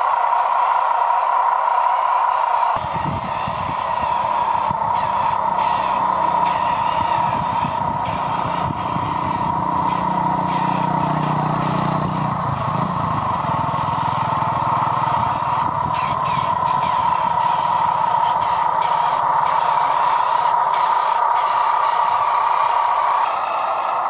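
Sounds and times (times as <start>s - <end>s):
high motor whine: 0.0s - 24.0s
low engine-like hum: 0.0s - 24.0s.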